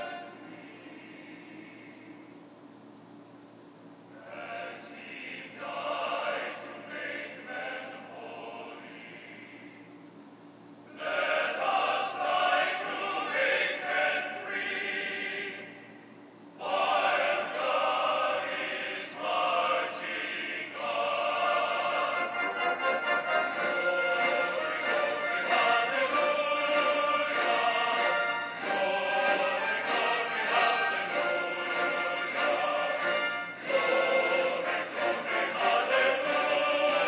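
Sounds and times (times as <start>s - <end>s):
choir singing with music: 0.0s - 2.2s, 4.2s - 9.9s, 10.9s - 16.0s, 16.6s - 37.0s.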